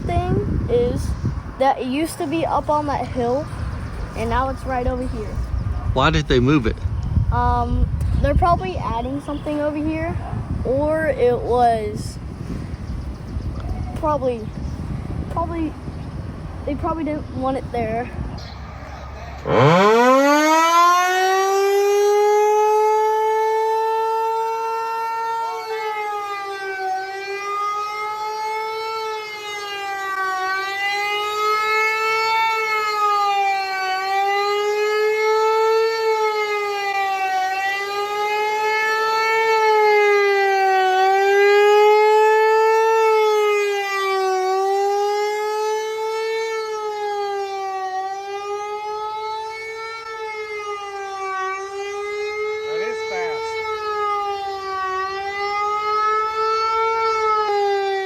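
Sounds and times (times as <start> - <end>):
tornado warning siren wailing: 0.0 - 58.0.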